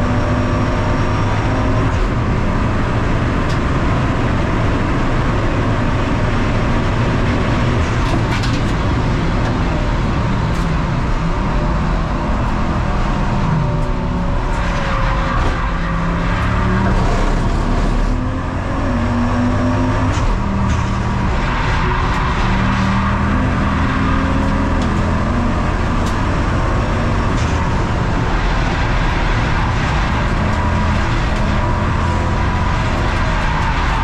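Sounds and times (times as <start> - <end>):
race car engine running hard: 0.0 - 34.0
road and wind noise: 0.0 - 34.0.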